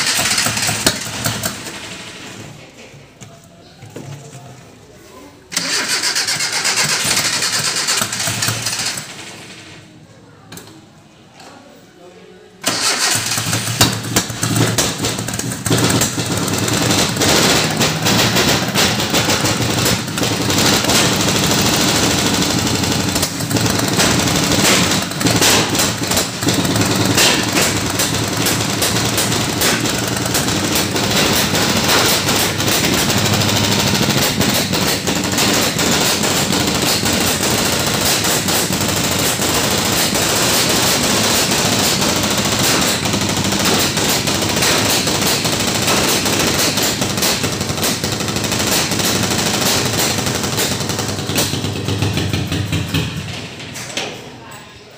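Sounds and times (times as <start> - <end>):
rough car engine running: 0.0 - 2.6, 5.5 - 9.8, 12.6 - 53.8
engine pops and crackles: 0.0 - 3.3, 5.5 - 9.9, 12.6 - 54.3.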